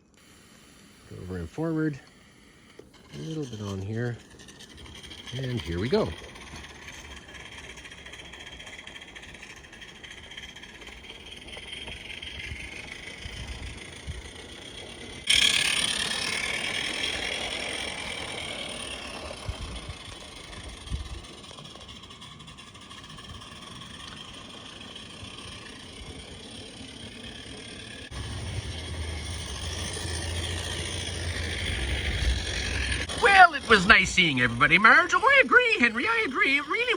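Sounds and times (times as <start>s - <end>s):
low hum: 0.0s - 36.9s
steam locomotive running on track: 0.0s - 36.9s.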